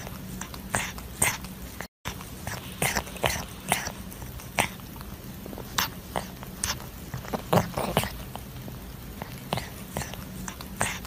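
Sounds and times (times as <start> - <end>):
cats licking with wet clicks: 0.1 - 11.0.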